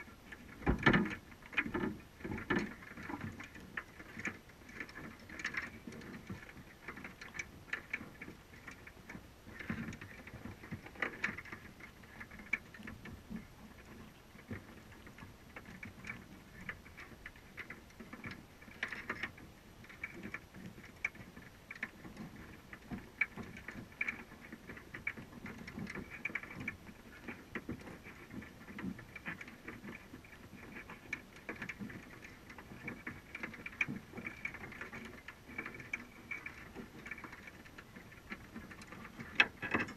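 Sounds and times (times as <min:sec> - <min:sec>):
crabs clicking and scrabbling underwater: 0:00.0 - 0:39.9.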